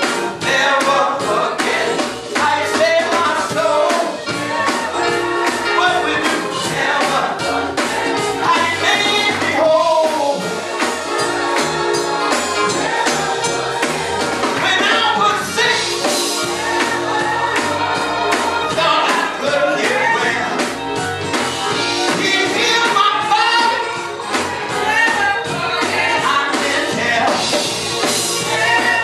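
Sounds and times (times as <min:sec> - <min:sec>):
drums: 0:00.0 - 0:29.0
gospel singing over a band: 0:00.0 - 0:29.0.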